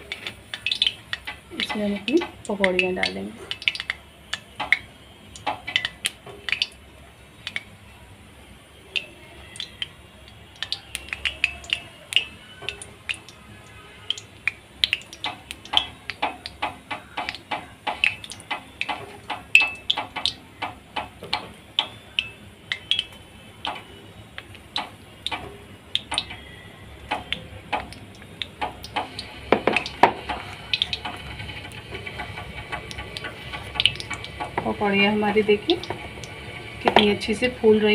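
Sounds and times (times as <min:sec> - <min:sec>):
hot oil crackling and popping: 0:00.0 - 0:37.9.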